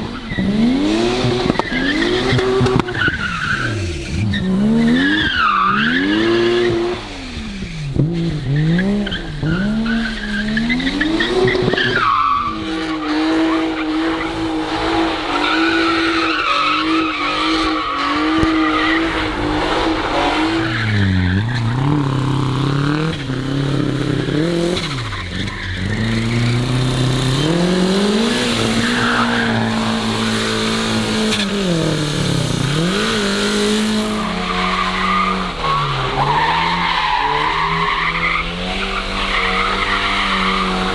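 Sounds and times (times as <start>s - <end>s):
car engines revving hard: 0.0s - 40.9s
tyres skidding on wet asphalt: 0.0s - 40.9s.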